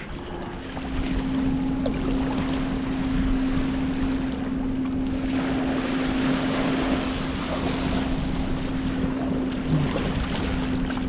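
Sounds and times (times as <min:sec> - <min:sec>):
steady low hum: 0:00.0 - 0:11.0
water splashing around kayak: 0:00.0 - 0:11.0.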